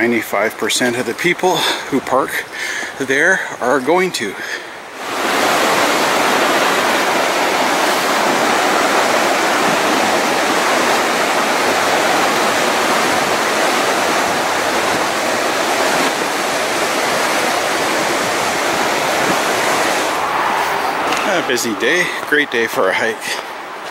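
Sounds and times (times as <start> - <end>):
river rushing over rapids: 4.0 - 23.9.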